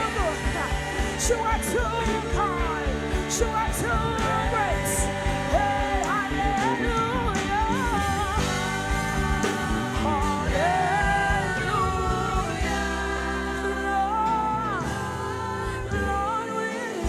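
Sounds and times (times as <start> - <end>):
live band with keyboard and bass: 0.0 - 17.0
voices singing: 0.0 - 17.0.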